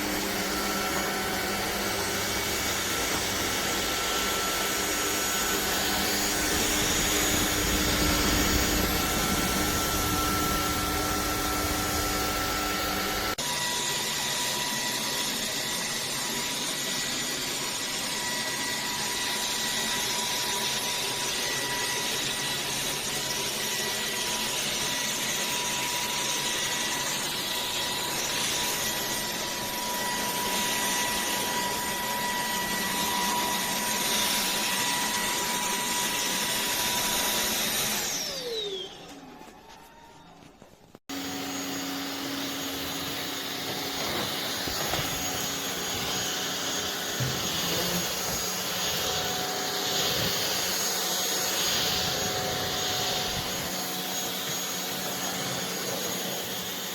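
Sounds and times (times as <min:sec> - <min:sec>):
vacuum cleaner motor whine: 0:00.0 - 0:56.9.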